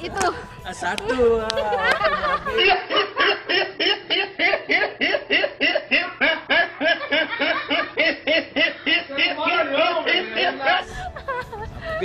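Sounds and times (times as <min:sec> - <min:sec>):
boy laughing hard: 0:01.6 - 0:12.0.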